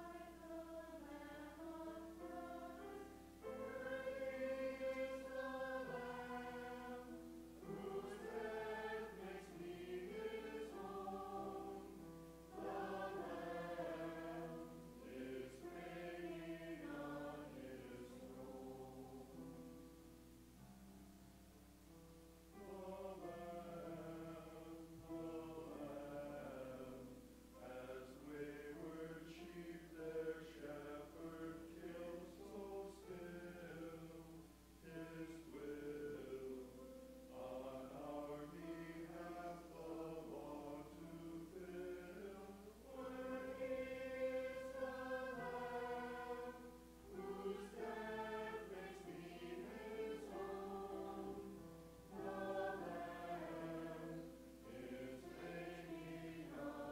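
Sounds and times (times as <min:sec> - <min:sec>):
church choir singing a hymn: 0:00.0 - 0:20.0, 0:22.5 - 0:56.9.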